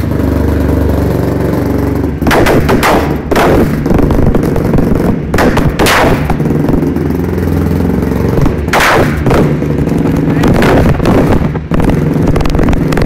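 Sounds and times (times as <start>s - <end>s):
engine revving: 0.0s - 13.0s
exhaust cracks like backfires: 0.0s - 13.0s.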